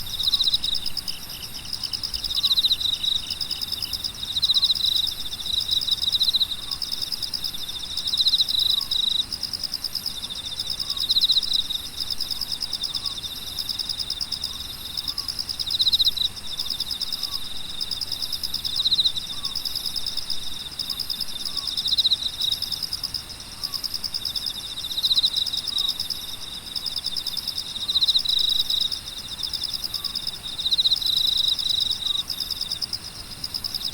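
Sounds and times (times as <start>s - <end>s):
insects chirring: 0.0s - 33.9s
loud insect trill: 0.0s - 33.9s.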